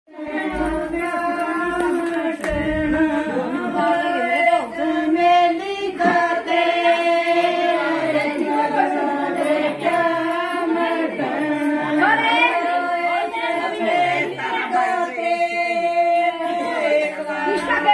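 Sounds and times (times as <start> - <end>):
women singing folk song: 0.1 - 17.9.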